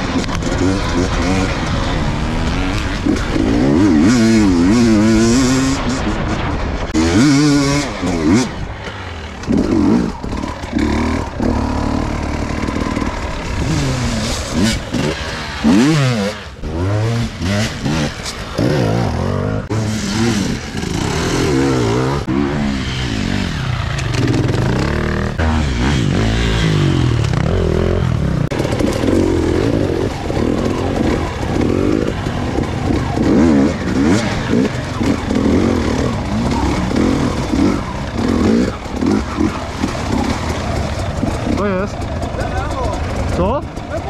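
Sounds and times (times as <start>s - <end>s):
dirt bike engines revving: 0.0s - 44.0s.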